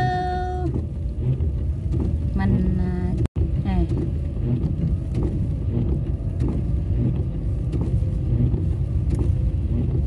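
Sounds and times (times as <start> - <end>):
tyre and engine rumble: 0.0 - 10.0.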